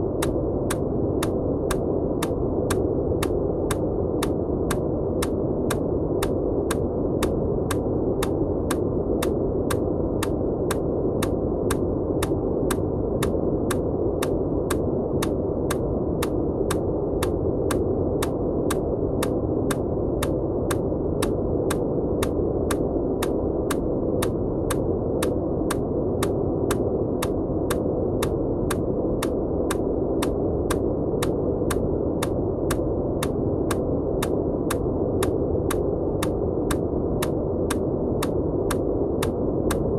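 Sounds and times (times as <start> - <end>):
sharp repeating clicks: 0.2 - 39.9.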